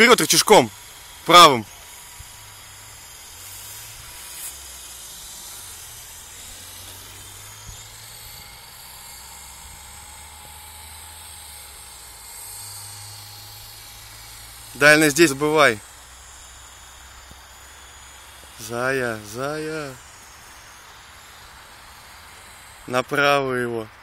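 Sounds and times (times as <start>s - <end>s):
rc helicopter whirring: 0.0s - 24.0s
steady hiss: 0.0s - 24.0s.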